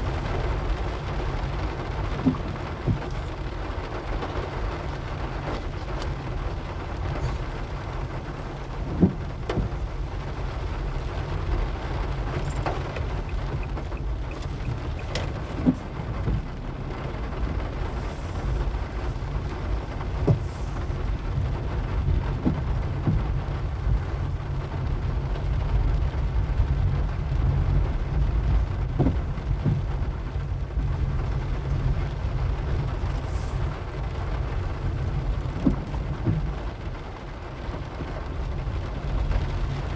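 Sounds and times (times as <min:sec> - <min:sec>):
car engine and tyres rumbling: 0:00.0 - 0:39.9
rain hissing: 0:00.0 - 0:39.9.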